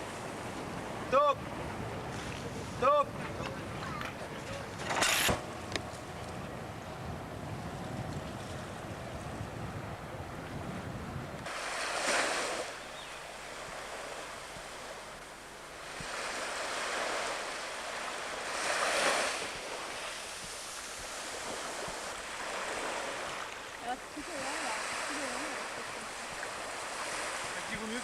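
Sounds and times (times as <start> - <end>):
sea waves washing in: 0.0 - 28.0
wind buffeting microphone: 0.0 - 28.0.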